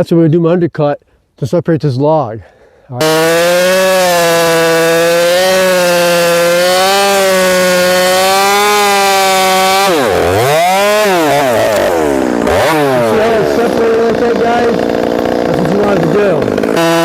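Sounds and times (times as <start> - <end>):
chainsaw cutting log: 3.0 - 17.0.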